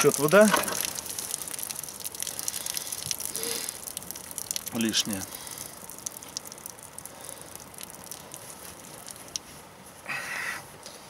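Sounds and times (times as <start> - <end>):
water trickling and dripping: 0.0 - 9.6.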